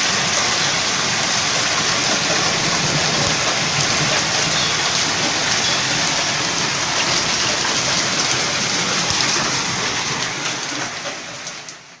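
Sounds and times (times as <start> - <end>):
hailstones ticking: 0.0 - 12.0
heavy rain hiss: 0.0 - 12.0.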